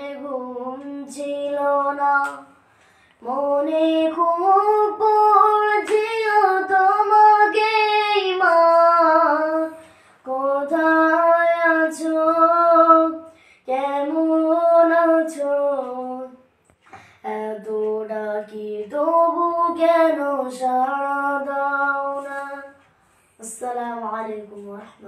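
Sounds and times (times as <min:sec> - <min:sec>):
boy singing unaccompanied: 0:00.0 - 0:02.6, 0:03.2 - 0:16.4, 0:17.2 - 0:22.8, 0:23.4 - 0:25.0.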